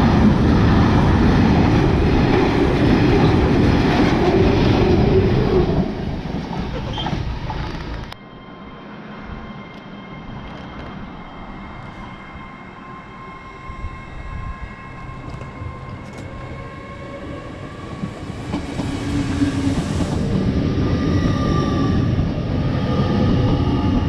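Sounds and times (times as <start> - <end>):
train wheels rumbling on rail: 0.0 - 8.2, 9.2 - 24.0.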